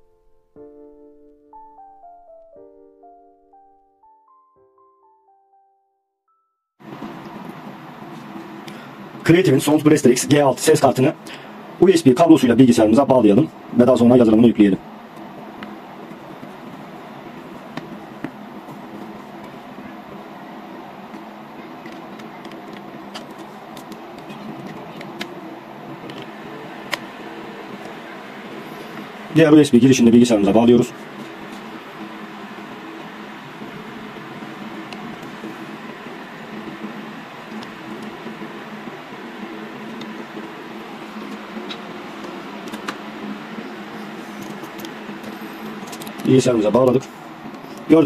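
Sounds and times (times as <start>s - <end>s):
computer fans whirring: 6.8s - 48.0s
steady background hum: 6.8s - 48.0s.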